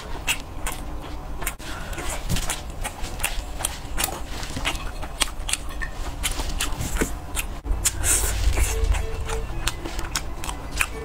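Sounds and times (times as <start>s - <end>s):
steady low hum: 0.0s - 11.0s
mouth chewing clicks and smacks: 0.2s - 11.0s.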